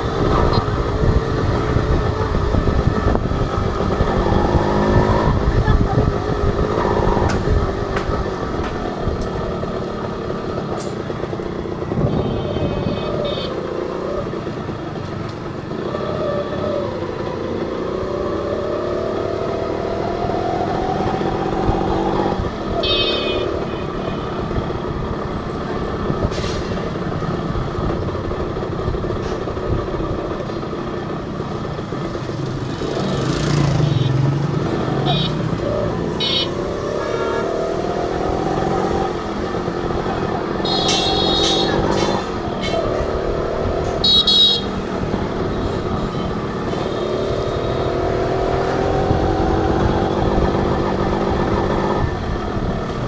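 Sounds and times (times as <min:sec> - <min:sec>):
two-stroke motorcycle engine: 0:00.0 - 0:53.0.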